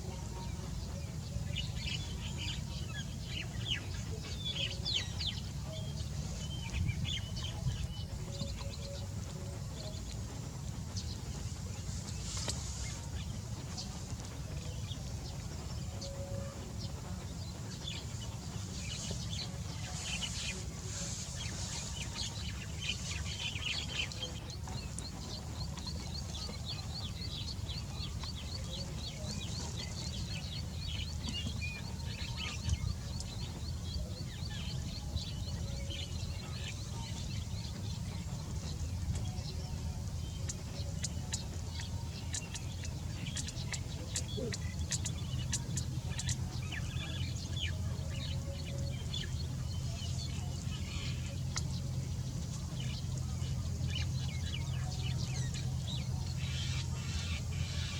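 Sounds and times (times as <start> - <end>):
birds chirping: 0.0 - 57.9
steady low rumble: 0.0 - 57.9.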